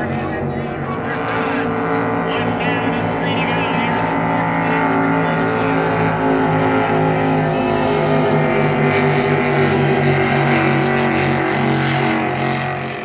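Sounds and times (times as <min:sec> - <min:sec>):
powerboat engine passing at speed: 0:00.0 - 0:13.0.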